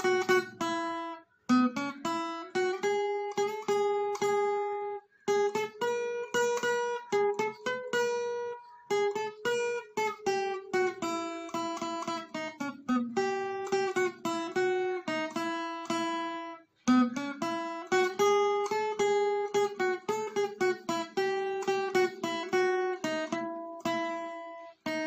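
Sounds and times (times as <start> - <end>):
acoustic guitar plucked and strummed: 0.0 - 25.0.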